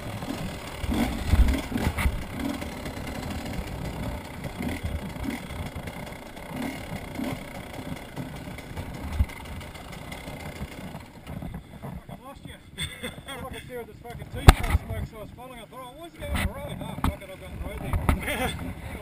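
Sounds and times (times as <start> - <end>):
rough motorbike engine: 0.0 - 19.0.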